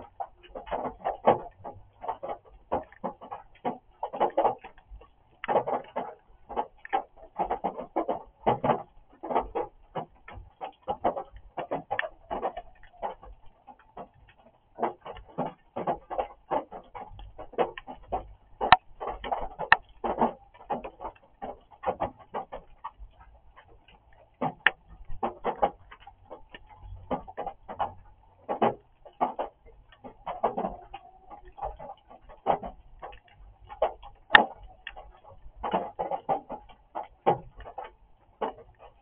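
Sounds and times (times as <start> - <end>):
rain drumming on a roof: 0.0 - 39.0.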